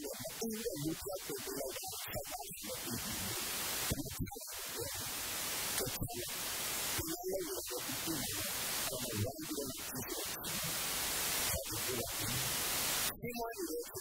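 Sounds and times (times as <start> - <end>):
man preaching through a microphone: 0.0 - 5.0, 5.7 - 10.8, 11.4 - 14.0
steady hiss: 0.0 - 14.0.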